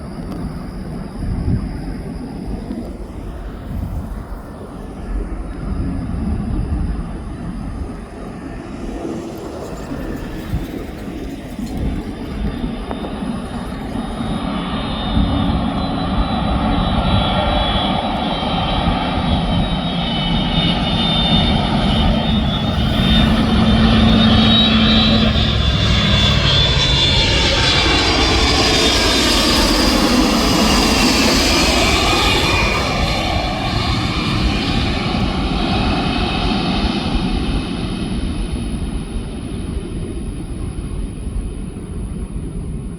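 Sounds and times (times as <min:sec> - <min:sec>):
jet engines whining on landing: 0:00.0 - 0:42.9.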